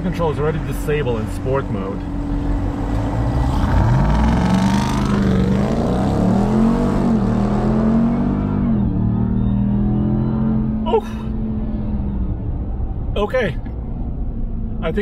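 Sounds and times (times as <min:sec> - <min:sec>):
truck engine accelerating through gears: 0:00.0 - 0:14.8.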